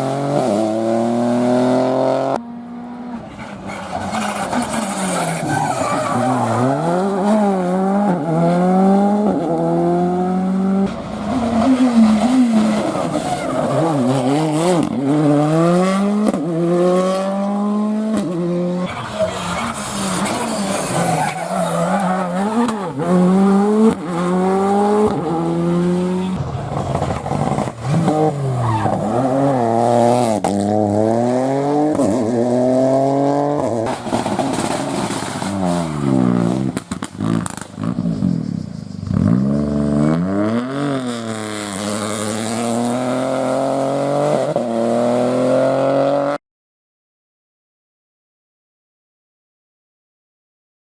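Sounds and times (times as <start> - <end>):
rally car engines revving: 0.0 - 46.4.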